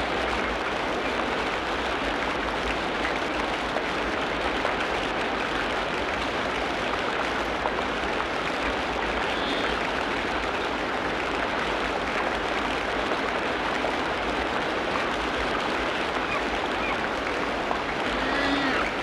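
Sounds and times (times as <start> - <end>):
rush of water: 0.0 - 19.0.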